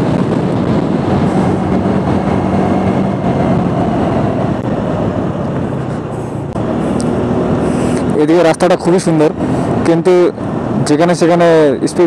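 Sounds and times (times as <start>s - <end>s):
scooter engine hum: 0.0s - 10.8s
road noise: 0.0s - 12.0s
wind rush over microphone: 0.0s - 12.0s.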